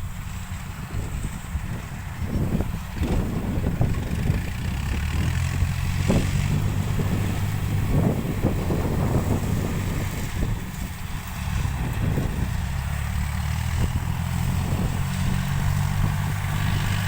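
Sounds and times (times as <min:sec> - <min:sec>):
combine harvester diesel drone: 0:00.0 - 0:17.0.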